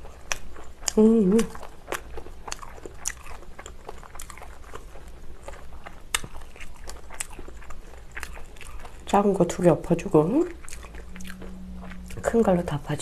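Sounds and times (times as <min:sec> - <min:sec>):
chewing and crunching food: 0:00.0 - 0:13.0.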